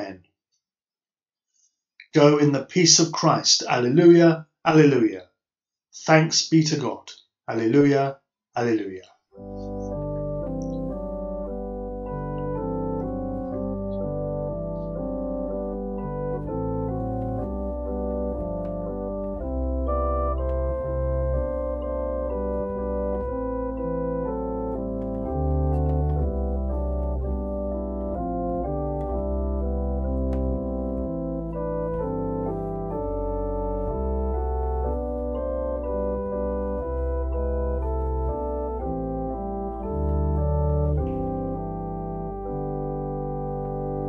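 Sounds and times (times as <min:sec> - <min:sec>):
organ chords: 0:08.6 - 0:44.0.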